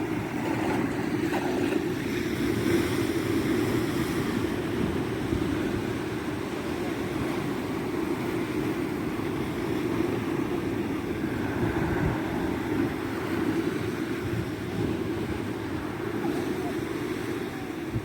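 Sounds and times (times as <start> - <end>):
surf rushing: 0.0 - 18.0
wind at the shore: 0.0 - 18.0.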